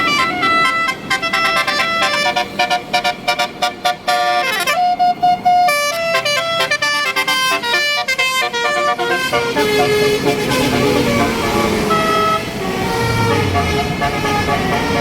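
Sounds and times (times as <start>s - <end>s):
multi-tone air horn melody: 0.0s - 15.0s.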